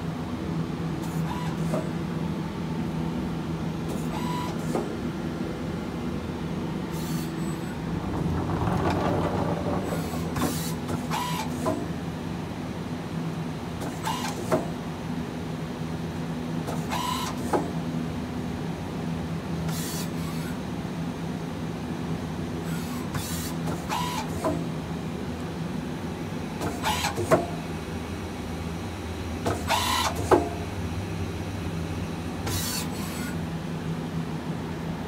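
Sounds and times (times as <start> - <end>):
lathe mechanical hum: 0.0 - 35.0.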